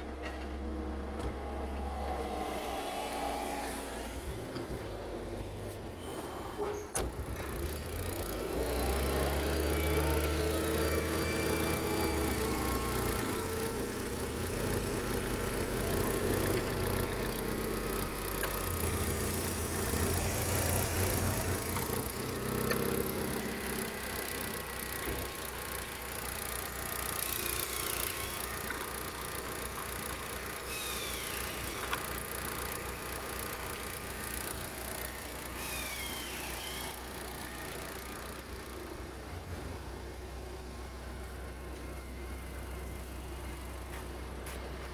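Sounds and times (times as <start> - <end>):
petrol engine idling: 7.1 - 44.9.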